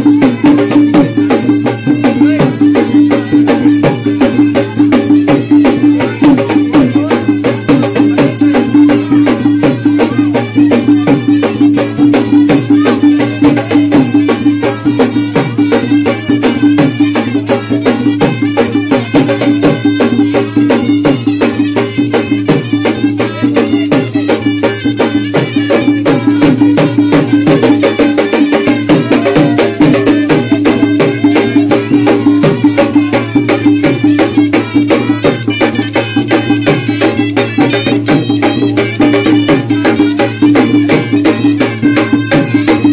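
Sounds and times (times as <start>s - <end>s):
barrel drum fast rhythm: 0.0s - 42.9s.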